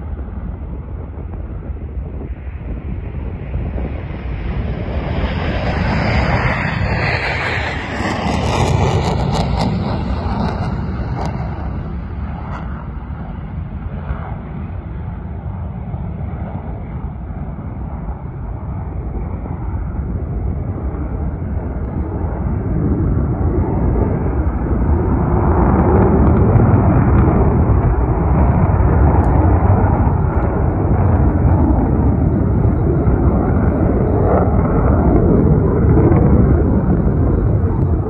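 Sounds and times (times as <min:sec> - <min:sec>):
aircraft flying overhead: 0:00.0 - 0:38.0.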